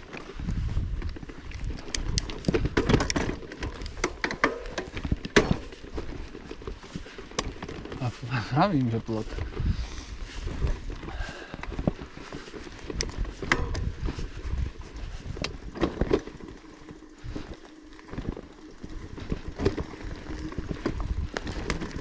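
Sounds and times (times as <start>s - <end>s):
bicycle rattling over bumps: 0.0s - 22.0s
wind rumble on microphone: 0.0s - 22.0s.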